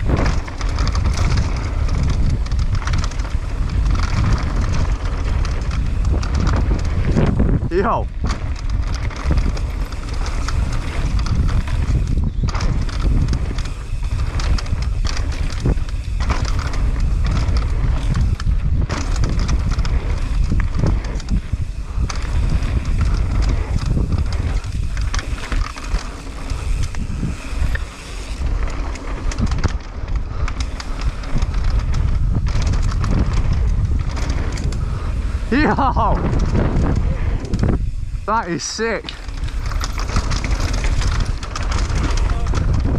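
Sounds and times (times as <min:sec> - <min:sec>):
bike knocking and rattling: 0:00.0 - 0:42.9
bike tyres humming on dirt: 0:00.0 - 0:42.9
wind buffeting microphone: 0:00.0 - 0:42.9.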